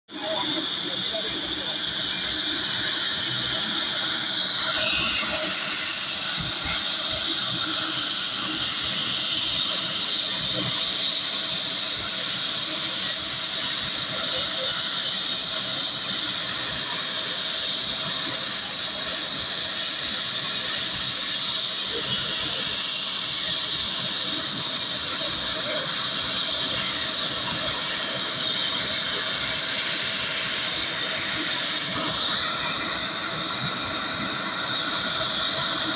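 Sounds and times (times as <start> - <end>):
helicopter engine and rotor running: 0.1 - 35.9.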